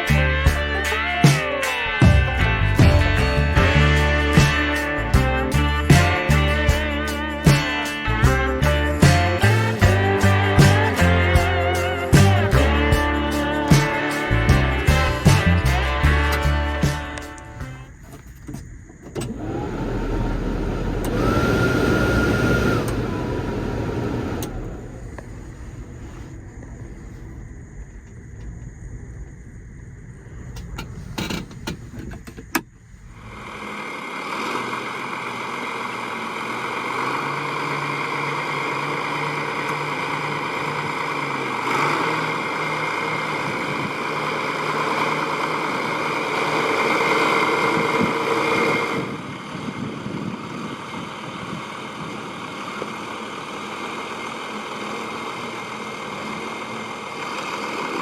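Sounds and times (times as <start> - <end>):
diesel tractor engine running: 0.0 - 26.1, 30.6 - 58.0.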